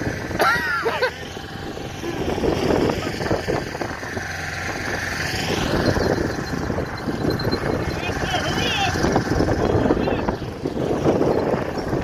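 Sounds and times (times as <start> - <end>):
wind buffeting microphone: 1.2 - 12.0.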